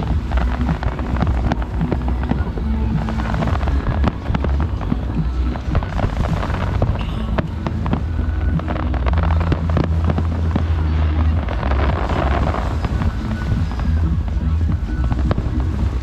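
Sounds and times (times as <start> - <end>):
fireworks bursting and crackling: 0.0 - 16.0
music with heavy bass: 0.0 - 16.0.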